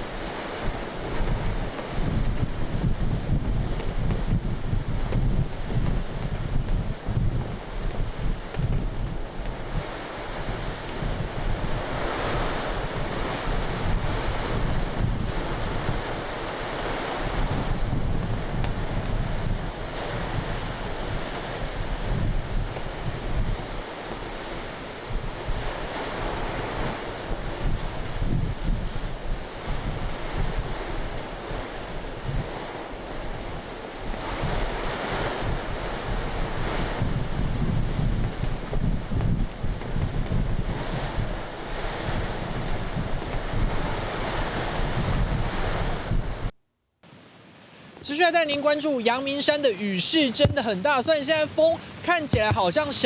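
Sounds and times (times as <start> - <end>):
heavy rain hiss: 0.0 - 46.5
gusting wind on microphone: 0.0 - 53.0.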